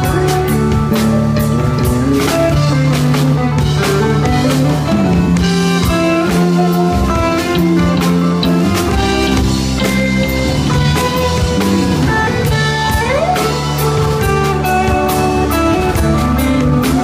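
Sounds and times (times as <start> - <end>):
drums: 0.0 - 17.0
electric guitar: 0.0 - 17.0.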